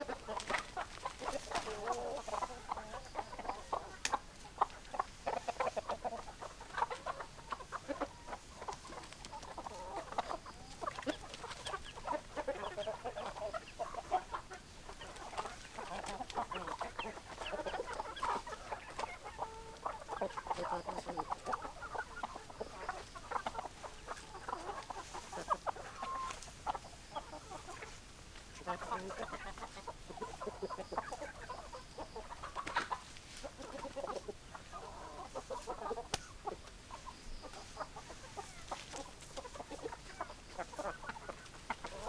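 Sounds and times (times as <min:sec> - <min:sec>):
hens clucking: 0:00.0 - 0:42.0.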